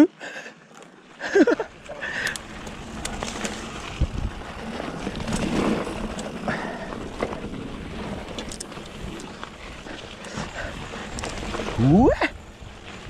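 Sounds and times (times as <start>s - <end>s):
bike clicks and rattles: 0.7s - 11.8s
tyre and wind noise: 1.1s - 13.0s.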